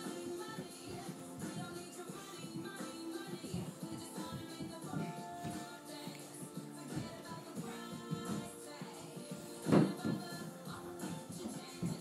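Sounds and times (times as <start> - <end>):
music with held notes over beat: 0.0 - 12.0.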